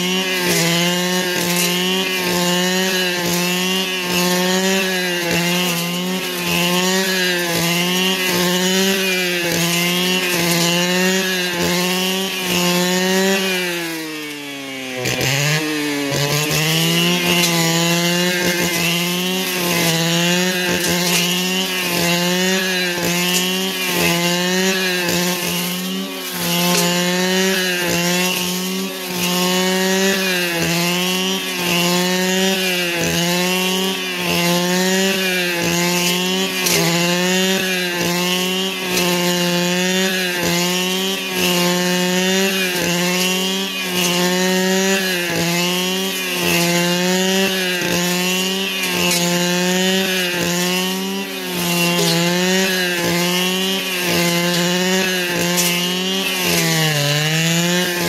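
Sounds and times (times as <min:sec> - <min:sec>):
brush cutter engine revving: 0:00.0 - 0:58.0.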